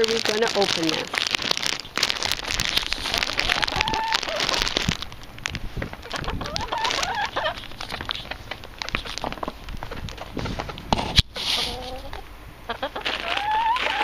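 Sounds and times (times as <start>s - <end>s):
hens calling: 0.0s - 5.0s, 5.7s - 14.0s
bag crinkling and rustling: 0.0s - 12.0s.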